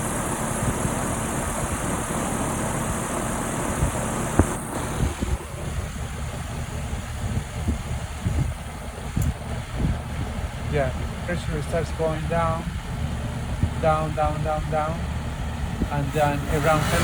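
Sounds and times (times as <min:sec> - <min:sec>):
compressor humming: 0:00.0 - 0:17.0.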